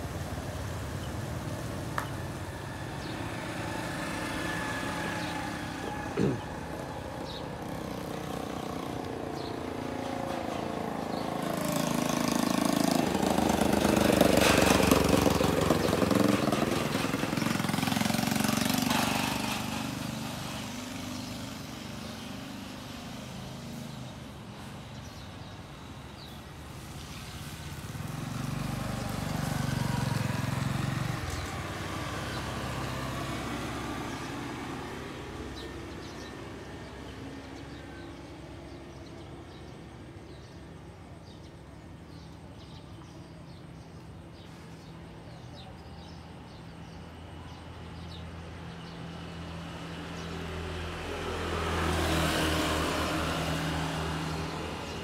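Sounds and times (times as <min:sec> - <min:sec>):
vehicle passing: 0:00.0 - 0:40.6, 0:46.0 - 0:55.0.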